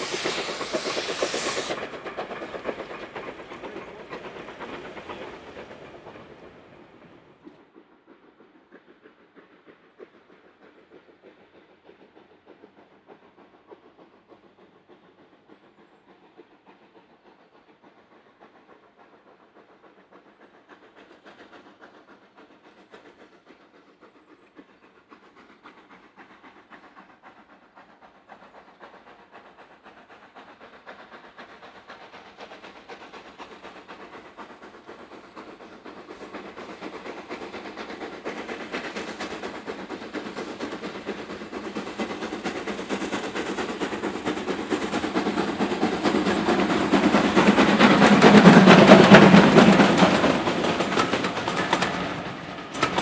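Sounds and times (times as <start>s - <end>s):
steam locomotive chuffing and hissing: 0.0s - 53.0s.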